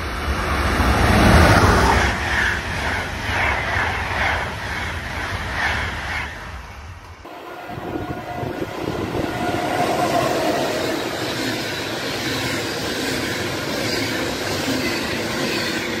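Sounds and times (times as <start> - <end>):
passenger train passing at speed: 0.0 - 16.0.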